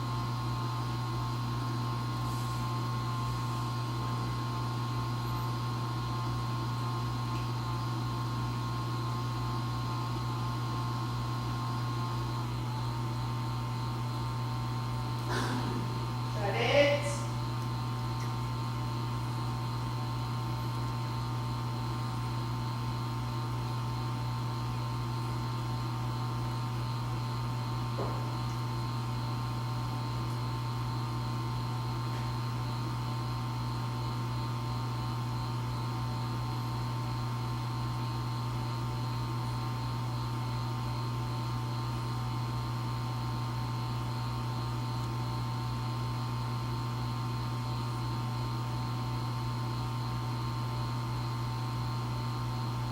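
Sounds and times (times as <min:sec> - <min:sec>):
aquarium pump humming: 0:00.0 - 0:52.9.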